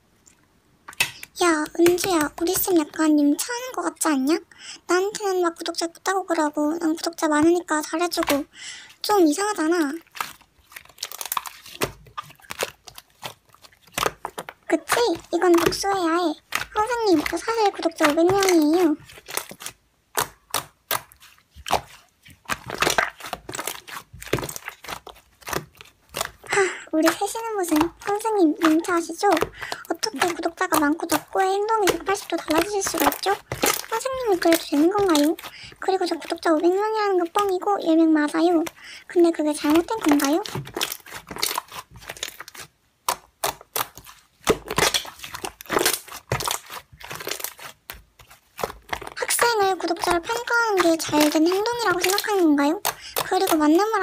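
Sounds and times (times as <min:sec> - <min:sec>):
slime squished by hand: 0:09.1 - 0:54.0.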